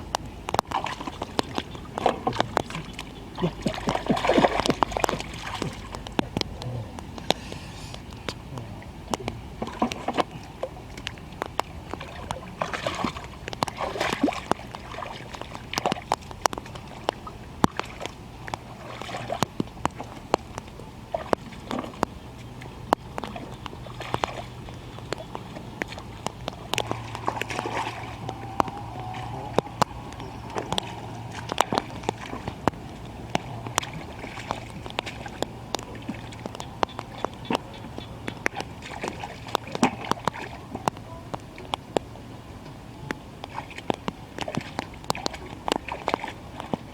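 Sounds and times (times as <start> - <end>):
water dripping: 0.0 - 46.9
water sloshing and splashing: 0.0 - 46.9.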